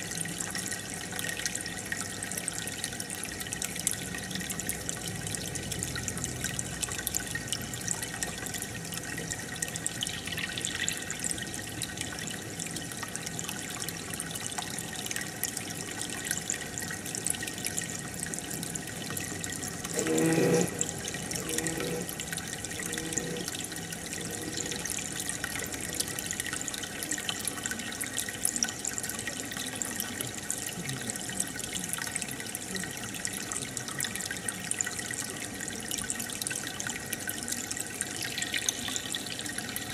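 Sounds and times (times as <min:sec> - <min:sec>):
aquarium air bubbling: 0:01.5 - 0:32.2, 0:34.8 - 0:39.9.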